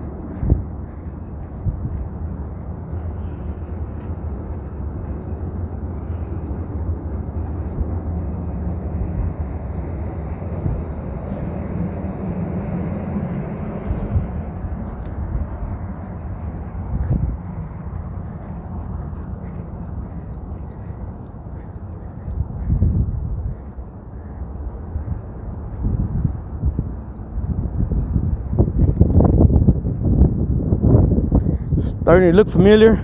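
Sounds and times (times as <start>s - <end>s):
low city rumble: 0.0s - 33.0s.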